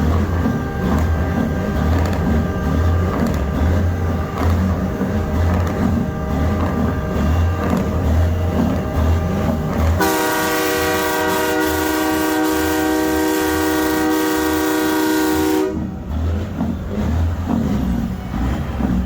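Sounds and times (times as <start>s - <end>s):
train horn chord: 0.0s - 16.1s
vehicle engine rumbling: 0.0s - 19.0s.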